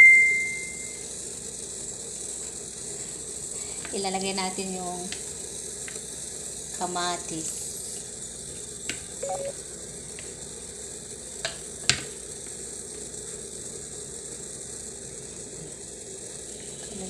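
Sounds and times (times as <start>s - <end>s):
broth hissing in a pot: 0.1s - 17.0s.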